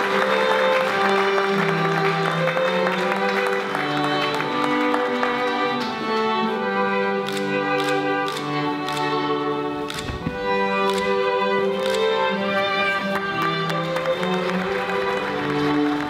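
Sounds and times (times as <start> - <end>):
classical string music: 0.0 - 16.0.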